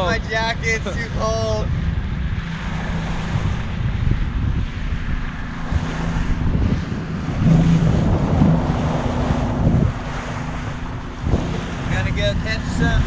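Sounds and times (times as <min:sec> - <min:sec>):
boat engine humming: 0:00.0 - 0:13.0
water rushing past: 0:00.0 - 0:13.0
wind buffeting microphone: 0:00.0 - 0:13.0.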